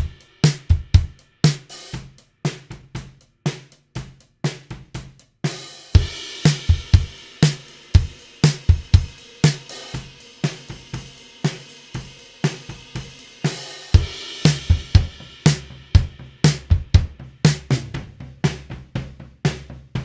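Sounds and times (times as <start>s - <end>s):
drum kit groove: 0.0s - 20.0s.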